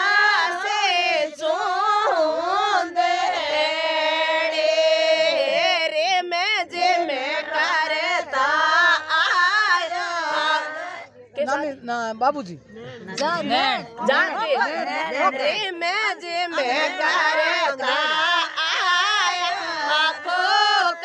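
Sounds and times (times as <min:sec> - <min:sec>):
woman singing unaccompanied: 0:00.0 - 0:11.4, 0:13.2 - 0:21.0.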